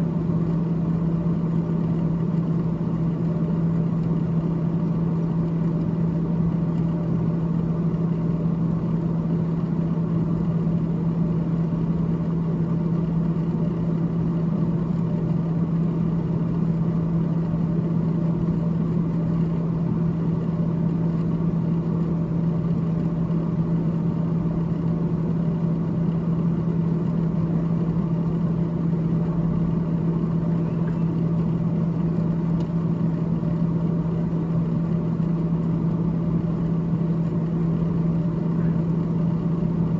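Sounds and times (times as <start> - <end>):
freezer fan humming: 0.0 - 39.9.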